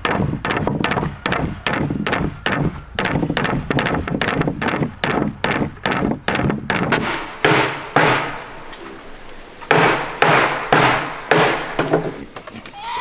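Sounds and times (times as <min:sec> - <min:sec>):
tool striking wood: 0:00.0 - 0:08.5, 0:09.7 - 0:12.2.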